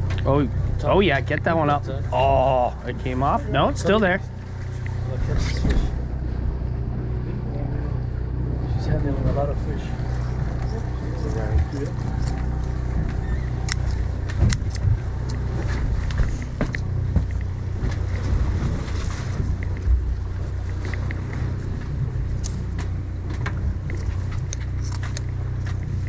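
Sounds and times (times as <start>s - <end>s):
boat machinery hum: 0.0s - 26.0s.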